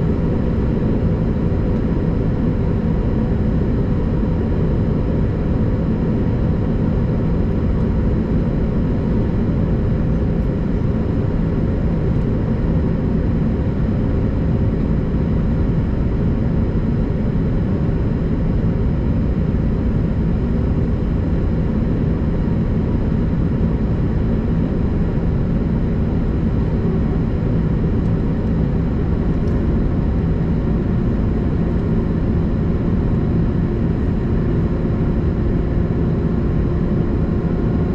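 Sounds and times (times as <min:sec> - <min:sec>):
jet engine drone: 0:00.0 - 0:37.9.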